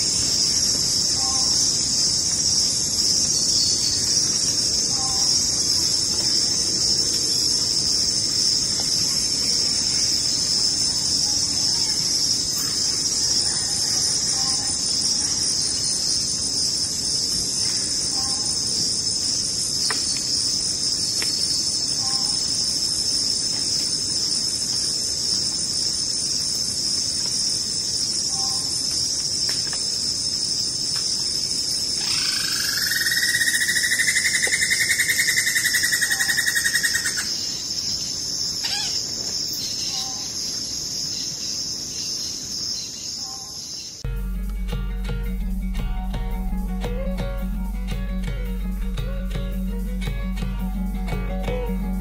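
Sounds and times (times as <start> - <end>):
faint two-note insect calls: 0.0 - 25.1, 26.4 - 52.0
high-pitched insect chorus: 0.0 - 52.0
louder rising insect call: 0.0 - 52.0.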